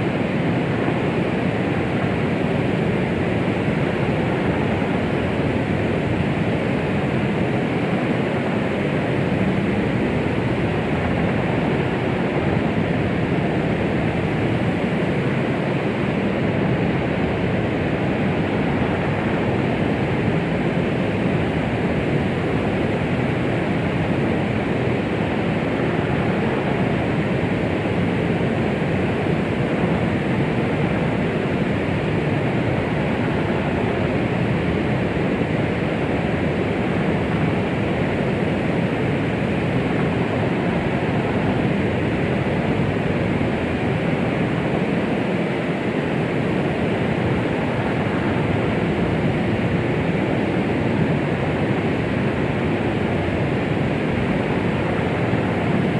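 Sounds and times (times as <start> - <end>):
deep rushing white noise: 0.0 - 55.9.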